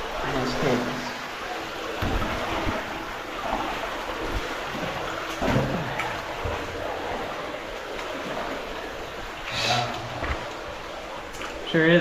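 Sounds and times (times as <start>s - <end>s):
stream water flowing: 0.0s - 12.0s
water sloshing and splashing: 0.0s - 12.0s.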